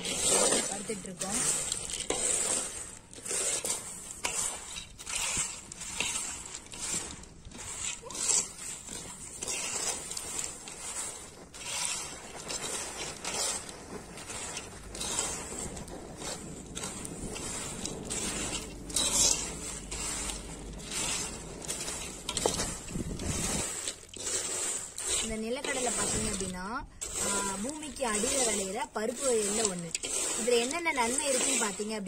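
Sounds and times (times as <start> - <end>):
shells and sand scraping metal pan: 0.0 - 32.0.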